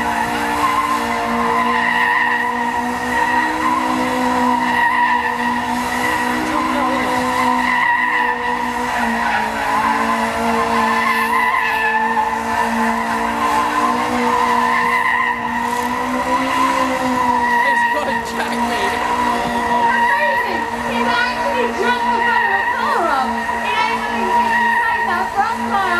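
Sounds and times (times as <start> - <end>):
car engine droning at steady revs: 0.0 - 25.9.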